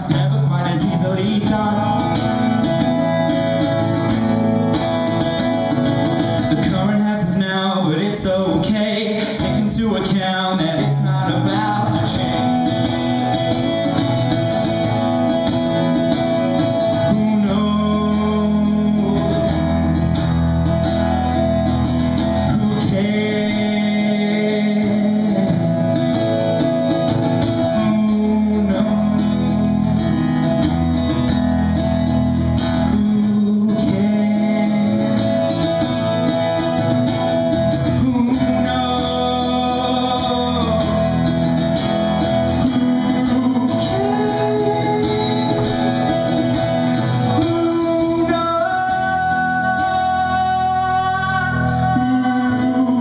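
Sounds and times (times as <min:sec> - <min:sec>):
man singing: 0:00.0 - 0:04.2, 0:04.8 - 0:53.0
acoustic guitar: 0:00.0 - 0:53.0.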